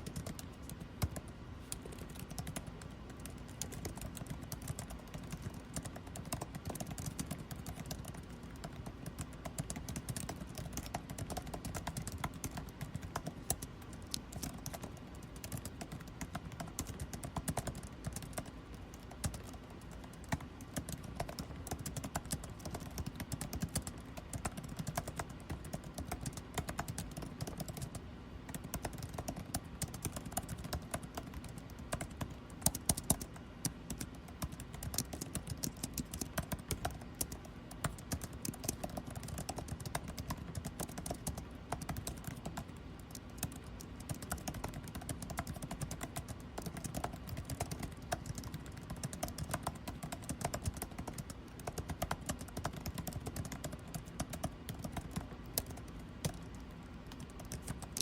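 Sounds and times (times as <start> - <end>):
air conditioning hum: 0.0 - 58.0
keyboard typing: 0.0 - 58.0.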